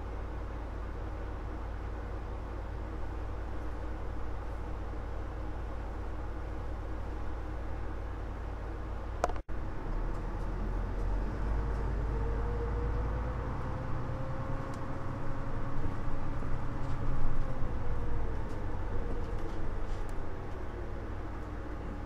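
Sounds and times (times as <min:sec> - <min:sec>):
bus engine rumble: 0:00.0 - 0:22.0
engine whine: 0:00.0 - 0:22.0.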